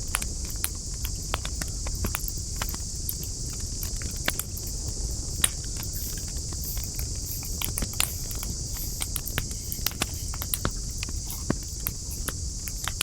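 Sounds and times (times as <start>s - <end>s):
steady high hiss: 0.0s - 13.0s
campfire crackling: 0.1s - 13.0s.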